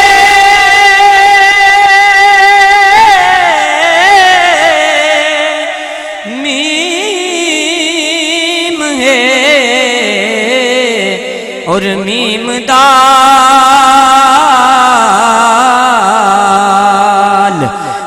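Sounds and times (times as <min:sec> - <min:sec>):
lower voice singing: 0:00.0 - 0:18.0
person singing unaccompanied: 0:00.0 - 0:18.0.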